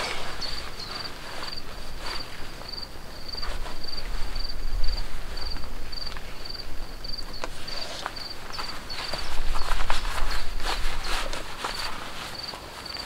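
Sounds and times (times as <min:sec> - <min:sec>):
cricket chirping: 0:00.0 - 0:13.0
faint rustles of handling gear: 0:00.0 - 0:13.0.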